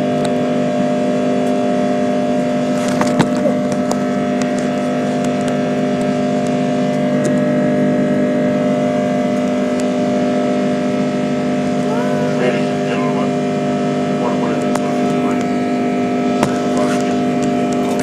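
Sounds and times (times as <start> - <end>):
jet engines droning in cabin: 0.0 - 18.0.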